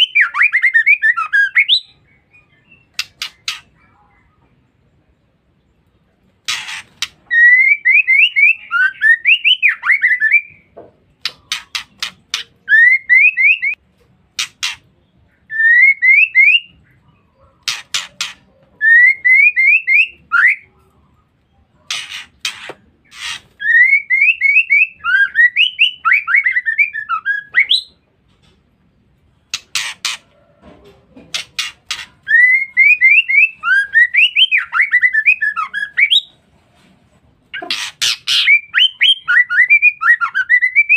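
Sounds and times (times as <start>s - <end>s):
bird harsh chattering: 0.0s - 4.0s, 6.4s - 10.6s, 11.2s - 20.6s, 21.8s - 28.0s, 29.4s - 30.4s, 31.3s - 36.3s, 37.5s - 40.9s.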